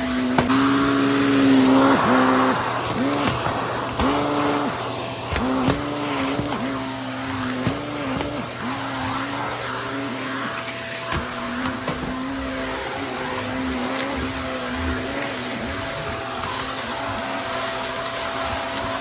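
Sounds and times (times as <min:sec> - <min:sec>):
vacuum cleaner sucking debris: 0:00.0 - 0:19.0.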